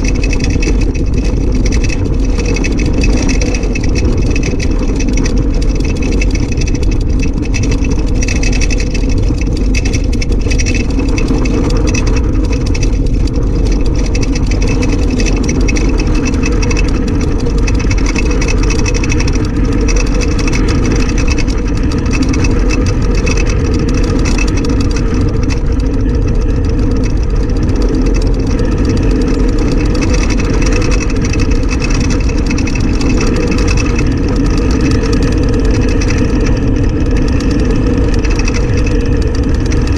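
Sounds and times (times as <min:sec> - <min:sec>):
rushing wind: 0:00.0 - 0:39.9
wheels rumbling on tarmac: 0:00.0 - 0:39.9.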